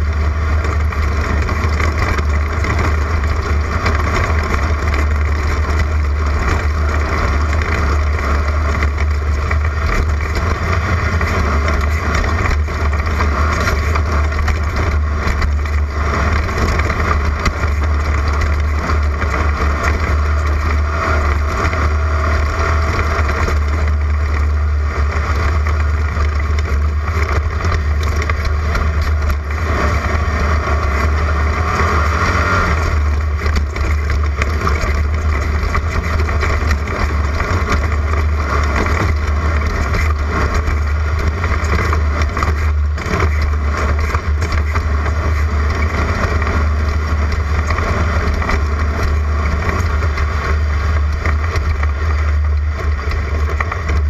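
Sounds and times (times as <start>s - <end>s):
low rumble: 0.0s - 54.0s
race car engine droning: 0.0s - 54.0s.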